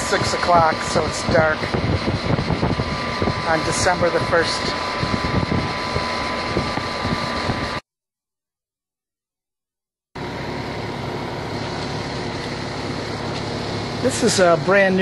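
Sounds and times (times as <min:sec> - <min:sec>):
condenser fan whirring: 0:00.0 - 0:07.8, 0:10.2 - 0:15.0.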